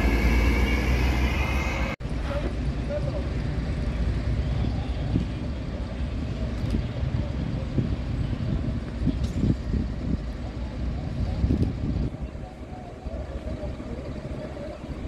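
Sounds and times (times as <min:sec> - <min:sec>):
truck diesel engines rumbling: 0:00.0 - 0:15.0.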